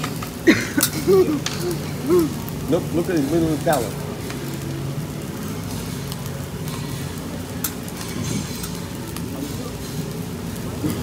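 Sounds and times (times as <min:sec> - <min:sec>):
rice sizzling on a griddle: 0:00.0 - 0:11.0.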